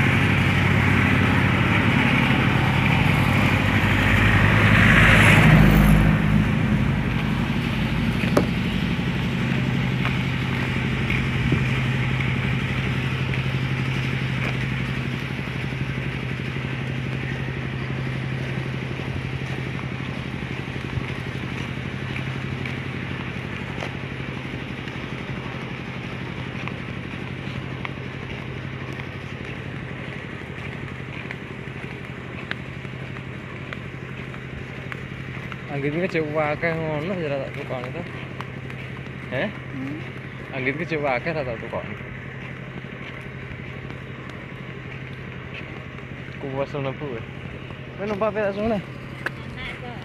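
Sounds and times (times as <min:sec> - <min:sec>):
motorcycle engine running: 0:00.0 - 0:50.0
road and wind noise: 0:00.0 - 0:50.0.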